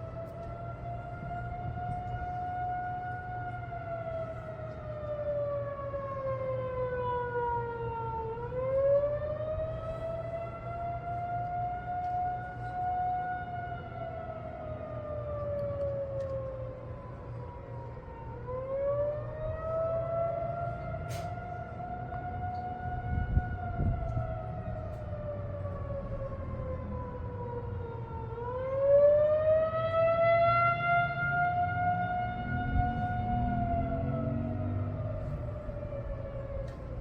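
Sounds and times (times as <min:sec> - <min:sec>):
rising and falling warning siren: 0:00.0 - 0:37.0.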